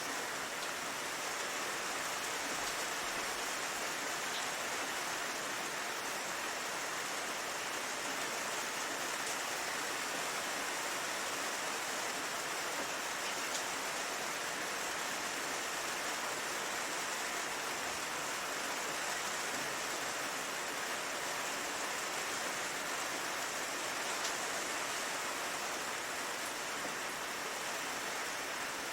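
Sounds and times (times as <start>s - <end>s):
steady rain hiss: 0.0s - 28.9s.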